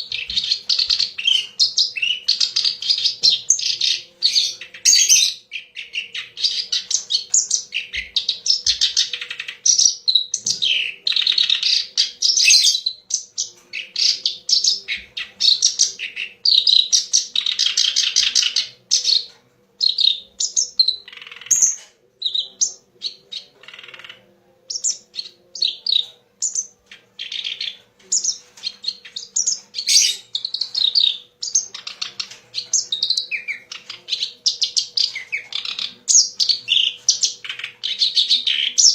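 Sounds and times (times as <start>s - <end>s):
warbler chattering song: 0.0s - 38.9s.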